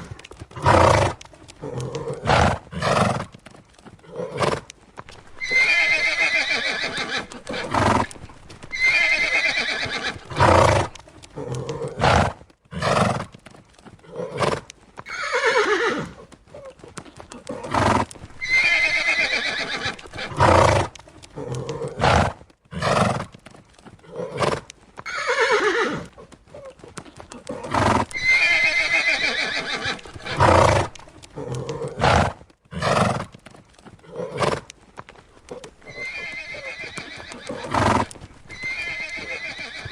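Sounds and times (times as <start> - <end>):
horses neighing: 0.0 - 34.7, 35.4 - 39.9.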